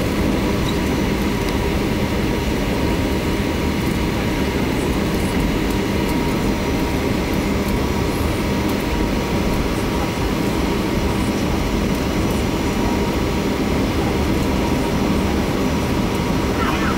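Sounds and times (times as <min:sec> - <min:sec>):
jet engines humming in cabin: 0:00.0 - 0:16.9.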